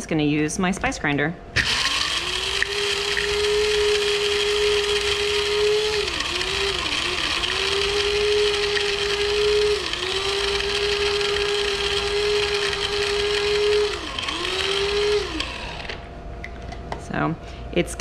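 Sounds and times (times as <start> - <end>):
spice grinder motor whining: 1.6 - 16.1.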